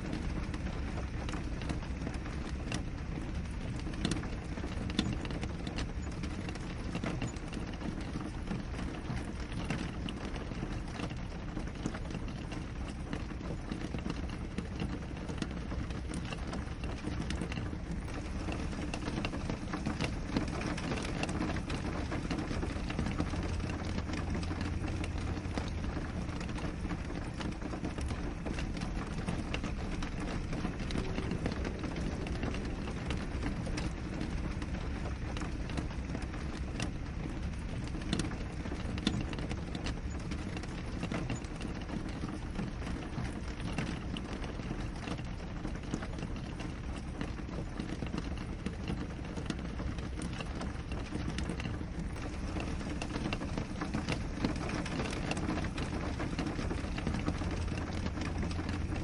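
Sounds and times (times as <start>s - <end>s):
rain on window pane: 0.0s - 59.0s.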